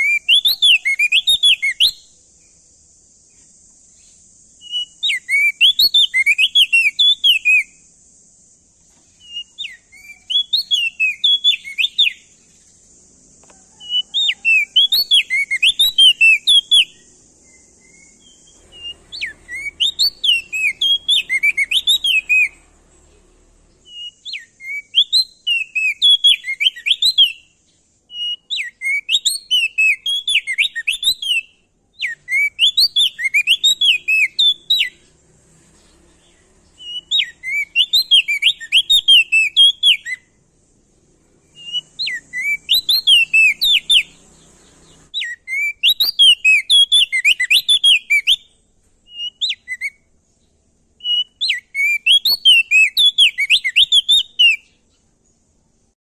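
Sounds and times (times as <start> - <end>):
bird singing swooping chirps: 0.0 - 55.9
faint steady high hiss: 0.0 - 56.0.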